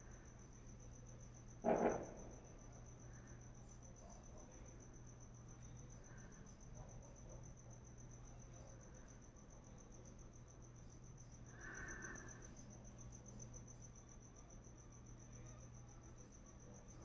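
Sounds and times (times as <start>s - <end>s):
faint cricket chirping: 0.0s - 17.0s.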